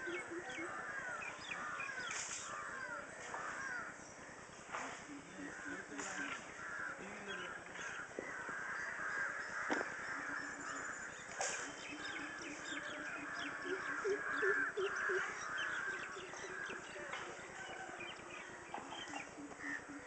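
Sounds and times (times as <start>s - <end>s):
birds calling: 0.0s - 20.0s
lower repeated bird notes: 0.0s - 20.0s.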